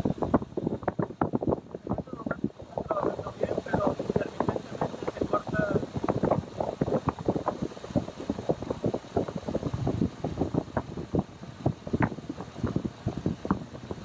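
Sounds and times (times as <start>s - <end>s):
engine idling with uneven pulses: 0.0s - 14.0s.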